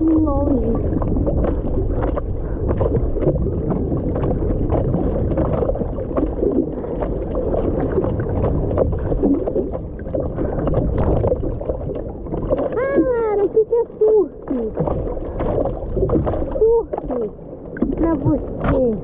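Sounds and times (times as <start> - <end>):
water rushing past: 0.0 - 19.0
water splashing from arm strokes: 0.0 - 19.0.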